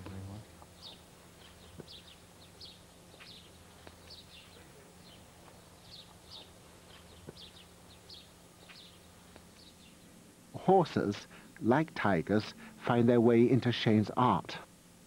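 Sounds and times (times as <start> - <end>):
birds chirping: 0.0 - 14.1
low steady hum: 0.0 - 15.0.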